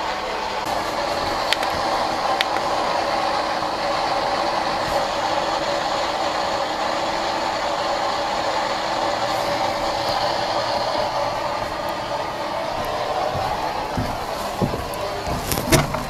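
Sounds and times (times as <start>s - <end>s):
static-like rushing noise: 0.0s - 16.0s.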